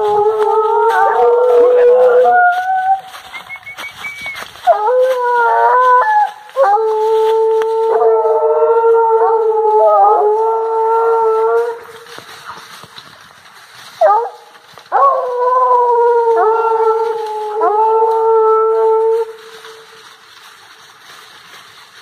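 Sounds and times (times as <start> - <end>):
hounds baying: 0.0 - 12.8, 13.8 - 19.8.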